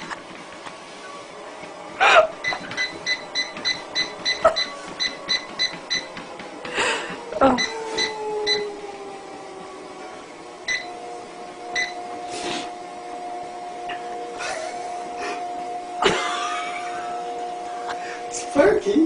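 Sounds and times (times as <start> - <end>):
faint falling whine: 0.0 - 19.0
treadmill beeping: 0.0 - 19.0.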